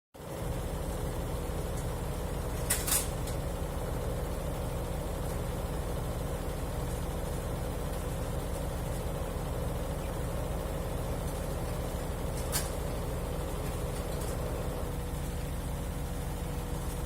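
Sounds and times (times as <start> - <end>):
constant hum: 0.2 - 17.0
washing machine drum spinning: 0.3 - 17.0.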